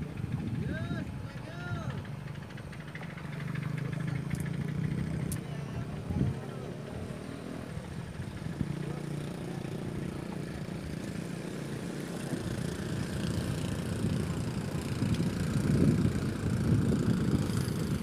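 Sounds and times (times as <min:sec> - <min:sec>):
small boat engine running: 0:00.0 - 0:18.0.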